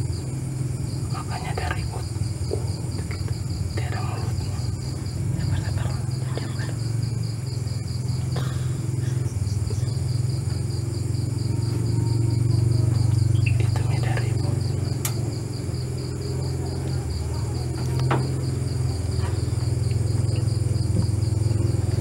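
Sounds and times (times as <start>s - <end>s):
crickets chirping: 0.0s - 22.0s
steady low hum: 0.0s - 22.0s.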